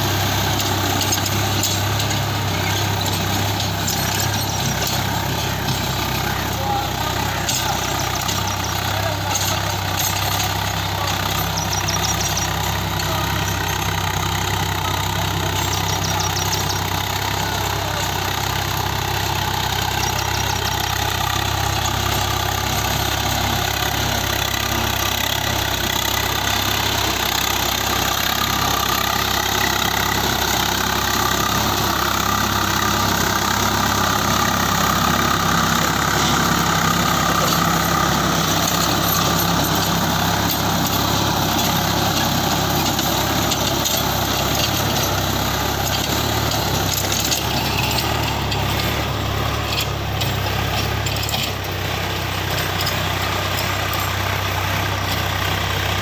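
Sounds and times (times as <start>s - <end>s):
rotavator blades churning soil: 0.0s - 55.3s
tractor diesel engine running: 0.0s - 56.0s.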